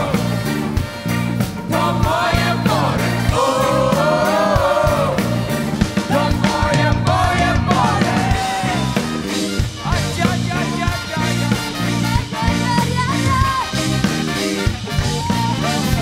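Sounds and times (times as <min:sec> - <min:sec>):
live band playing upbeat song: 0:00.0 - 0:16.0.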